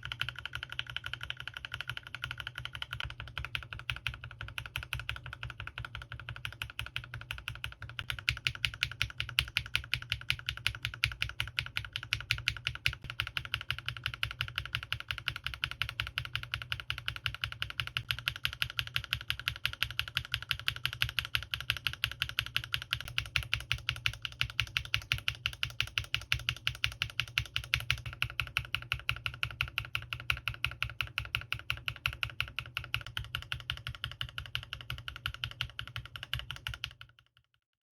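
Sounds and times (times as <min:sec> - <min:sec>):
mechanical keyboard typing: 0:00.0 - 0:37.5.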